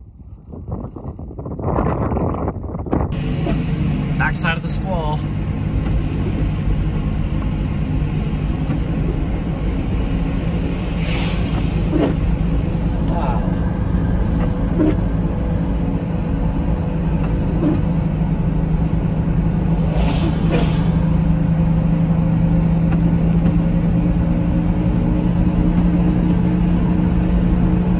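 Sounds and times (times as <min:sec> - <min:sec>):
car road and engine noise: 0:00.0 - 0:27.9.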